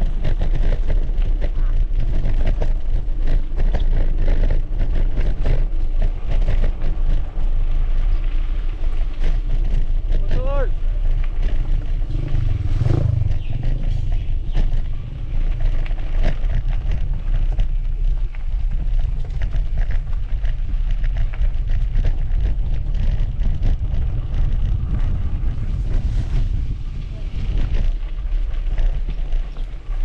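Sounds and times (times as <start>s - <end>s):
bike clicks and rattles: 0.0s - 30.0s
wind rumble on microphone: 0.0s - 30.0s.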